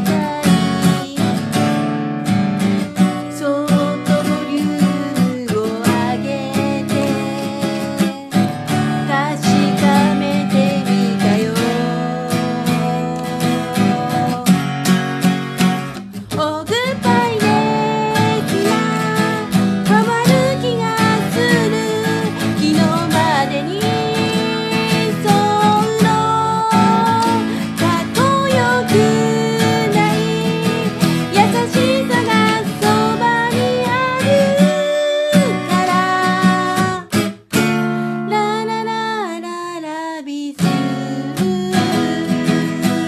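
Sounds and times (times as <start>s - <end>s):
acoustic guitar strumming: 0.0s - 38.8s, 40.6s - 43.0s
woman singing: 0.0s - 43.0s.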